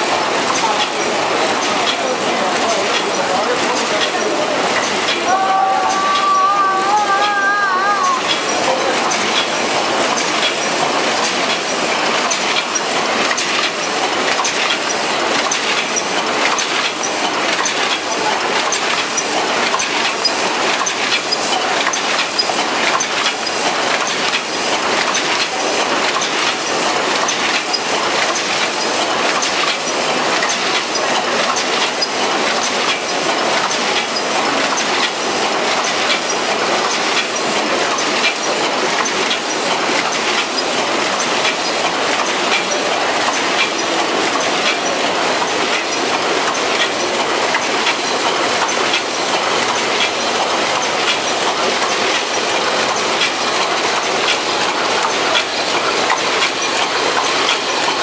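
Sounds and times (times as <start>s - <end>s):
paper cup machine clattering: 0.0s - 58.0s.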